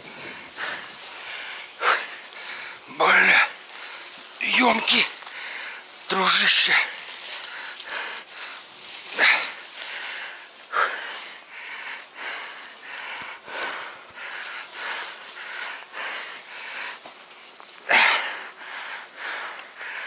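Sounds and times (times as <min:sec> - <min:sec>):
dry reeds rustling: 0:00.0 - 0:20.0
man breathing hard: 0:00.0 - 0:20.0.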